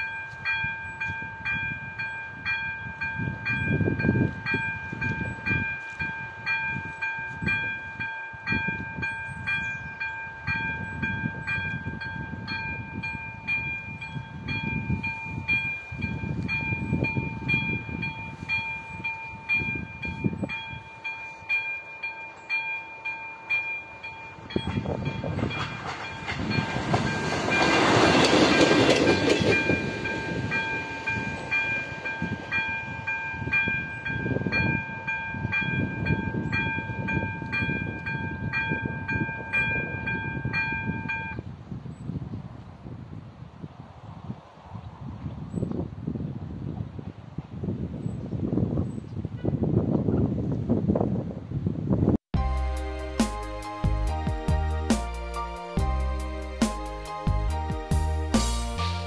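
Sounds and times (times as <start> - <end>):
level-crossing warning bell: 0.0 - 41.4, 52.4 - 59.0
passenger train passing: 0.0 - 41.4, 52.4 - 59.0.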